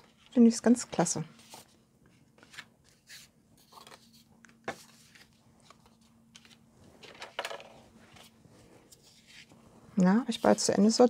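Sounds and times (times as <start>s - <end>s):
paper rustling: 0.0s - 1.8s, 2.4s - 9.6s.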